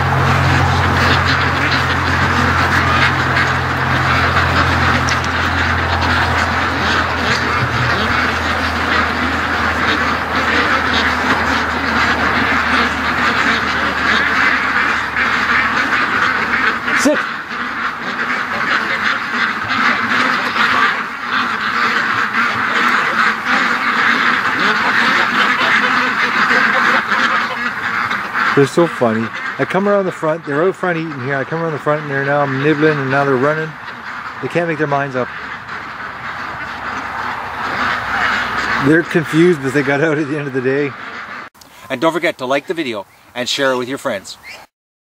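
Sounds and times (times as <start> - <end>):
ducks quacking: 0.0 - 44.7.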